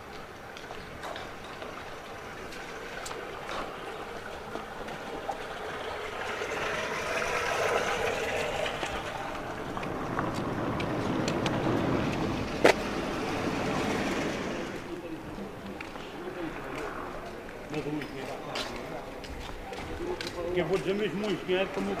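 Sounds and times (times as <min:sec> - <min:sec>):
vehicle passing by: 0:01.1 - 0:19.1.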